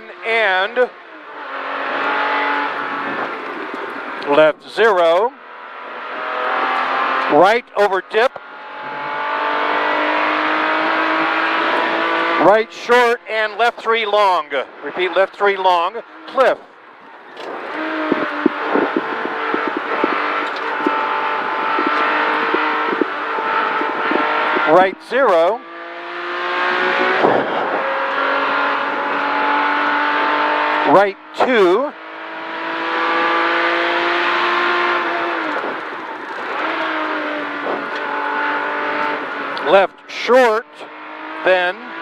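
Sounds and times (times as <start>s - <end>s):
car engine pulling hard: 0.0s - 42.0s
road and tyre noise: 0.0s - 42.0s.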